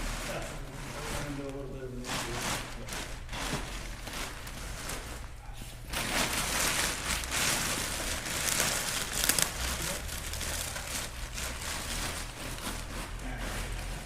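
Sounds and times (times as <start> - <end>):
plastic sheet crinkling: 0.0 - 14.0.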